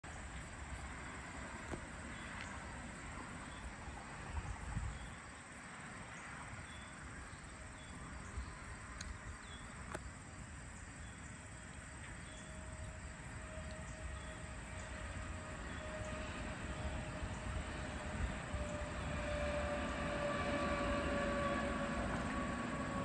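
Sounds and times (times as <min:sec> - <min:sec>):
insects chirping: 0:00.1 - 0:20.1.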